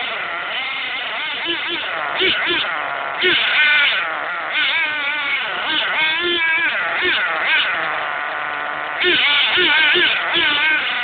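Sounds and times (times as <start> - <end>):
model car engine revving: 0.0 - 11.0.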